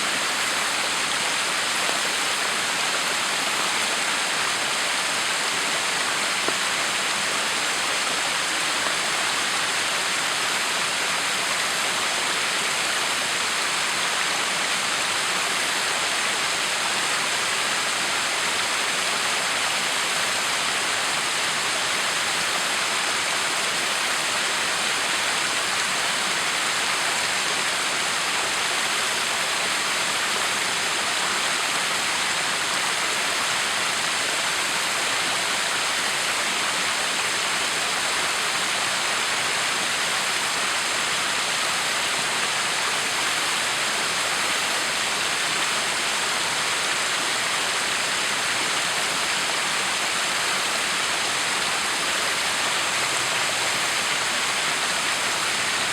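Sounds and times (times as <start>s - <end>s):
waterfall splashing: 0.0s - 55.9s.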